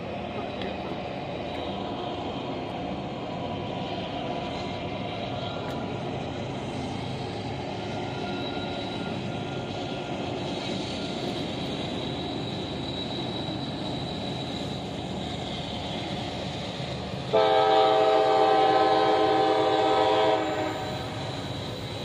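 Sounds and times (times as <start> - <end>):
train locomotive rumble: 0.0 - 22.0.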